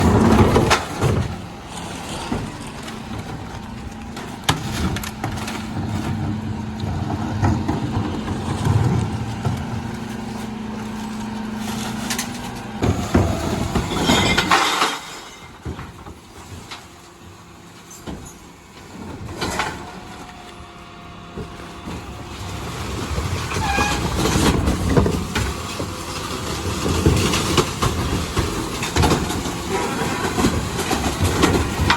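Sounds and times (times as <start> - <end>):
bins knocking and clattering: 0.0 - 20.4, 21.2 - 31.9
truck engine and hydraulics humming: 0.0 - 31.9.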